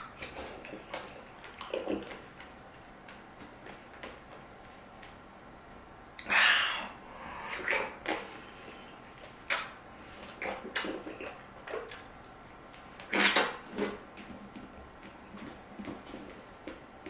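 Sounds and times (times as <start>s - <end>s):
wet chewing and mouth smacking: 0.0s - 5.2s, 7.4s - 16.9s.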